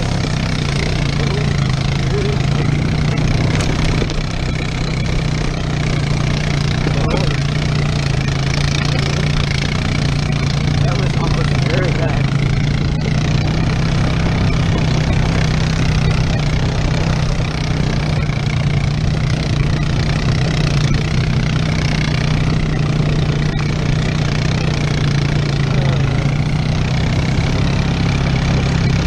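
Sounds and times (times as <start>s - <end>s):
atv engine droning: 0.0s - 29.0s
tyre and trail noise: 0.0s - 29.0s.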